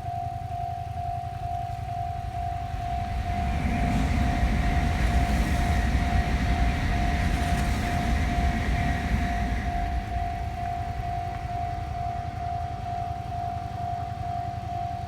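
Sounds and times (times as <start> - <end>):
level crossing warning bell ringing: 0.0 - 15.0
train rumbling past: 1.2 - 15.0.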